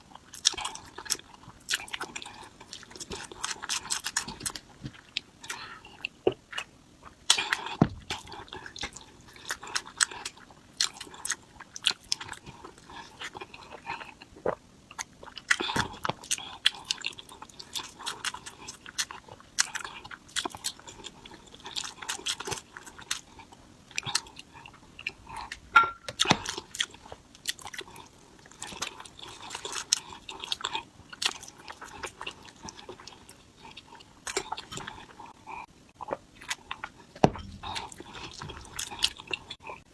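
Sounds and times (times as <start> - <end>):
wet chewing and biting: 0.3 - 39.9.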